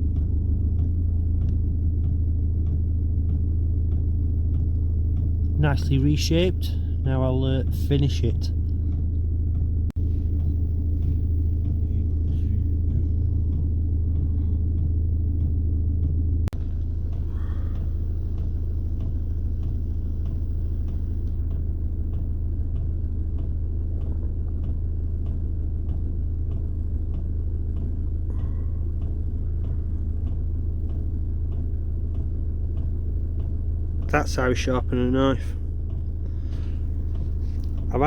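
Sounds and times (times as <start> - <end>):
low rumbling hum: 0.0 - 38.0.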